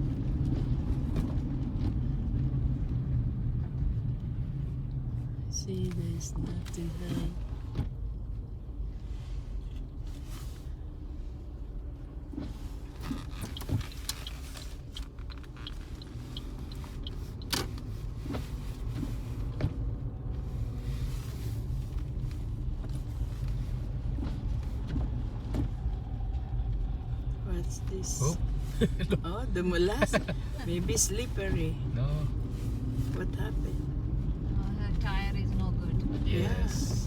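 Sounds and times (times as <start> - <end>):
low road rumble: 0.0 - 37.0.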